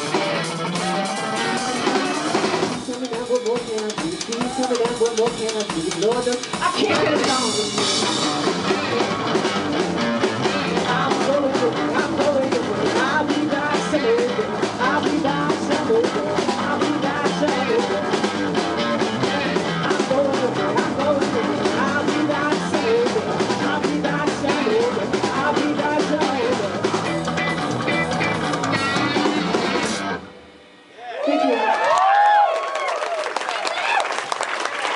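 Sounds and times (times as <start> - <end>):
rock band playing live: 0.0 - 30.6.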